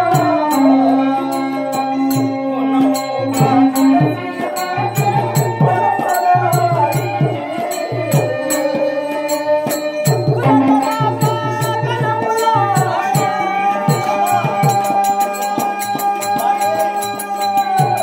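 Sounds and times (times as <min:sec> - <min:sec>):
sustained wavering melody: 0:00.0 - 0:18.0.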